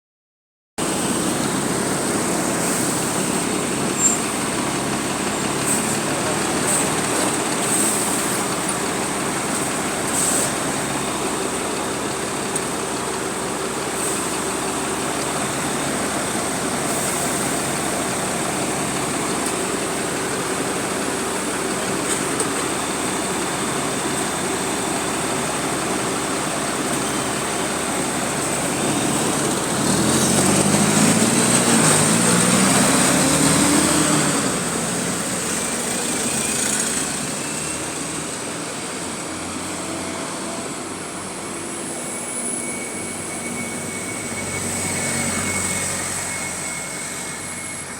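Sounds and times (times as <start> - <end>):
diesel bus engine: 0.8 - 47.9.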